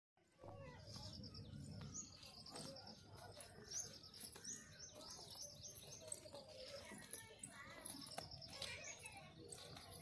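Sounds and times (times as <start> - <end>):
outdoor background noise: 0.2 - 10.0
small birds chirping: 0.2 - 10.0.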